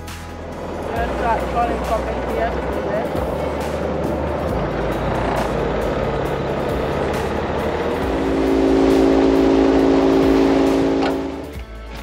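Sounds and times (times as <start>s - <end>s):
background music: 0.0s - 12.0s
outboard motor running: 0.3s - 11.6s.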